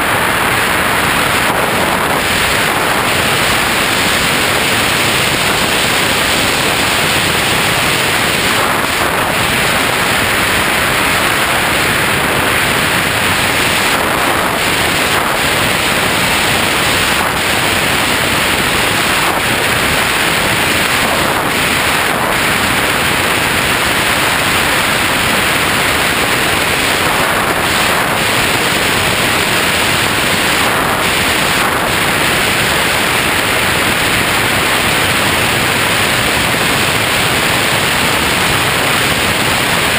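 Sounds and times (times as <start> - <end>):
loud steady hiss: 0.0 - 39.9.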